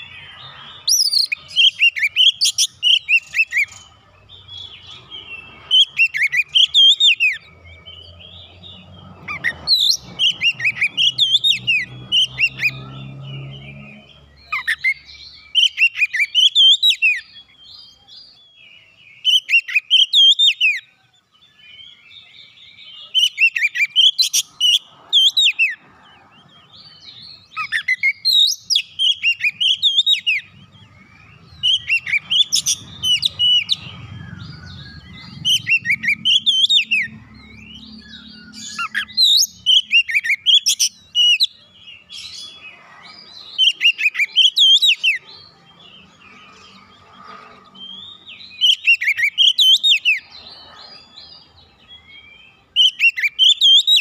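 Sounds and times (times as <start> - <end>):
bird singing whistled notes: 0.0 - 54.0.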